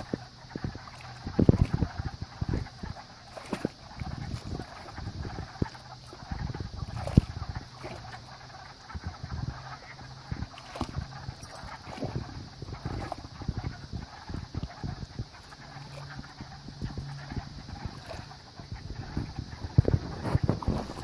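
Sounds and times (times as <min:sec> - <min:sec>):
frogs calling: 0:00.0 - 0:21.0
low steady drone: 0:00.0 - 0:21.0.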